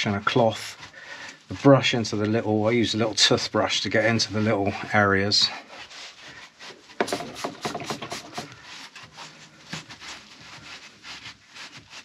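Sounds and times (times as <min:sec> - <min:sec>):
brush scrubbing metal: 0:00.0 - 0:12.0.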